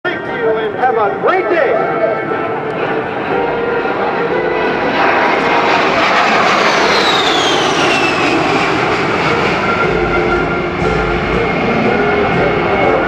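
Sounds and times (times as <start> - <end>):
high jet engine whine: 0.1 - 13.0
jet aircraft flying past: 0.1 - 13.0.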